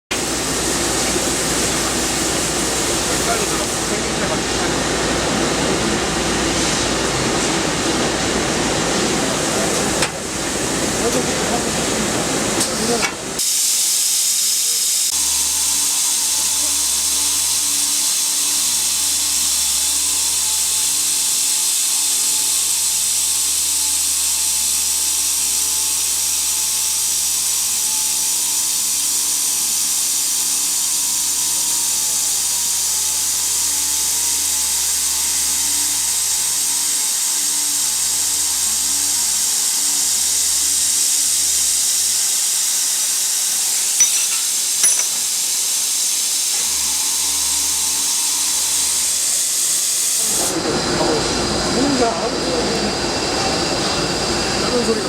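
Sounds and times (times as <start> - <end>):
circular saw running: 0.1 - 55.0.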